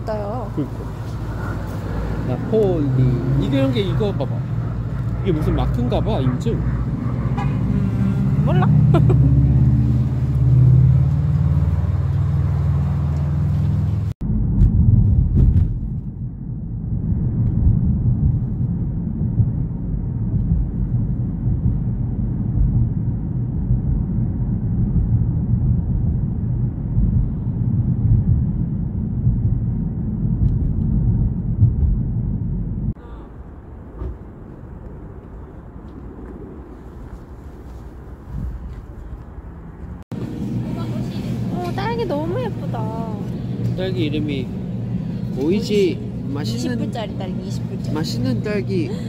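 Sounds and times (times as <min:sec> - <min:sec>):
road and engine rumble inside car: 0:00.0 - 0:34.9, 0:38.4 - 0:49.0
street hum: 0:00.0 - 0:49.0.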